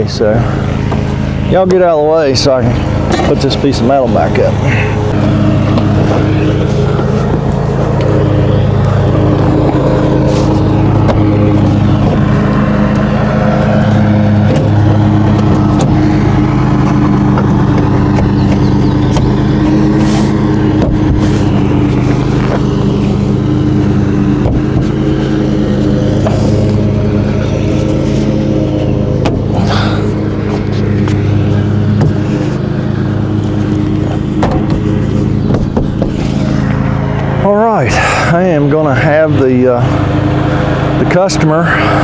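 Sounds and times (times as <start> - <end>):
lawn mower engine running: 0.0 - 42.0.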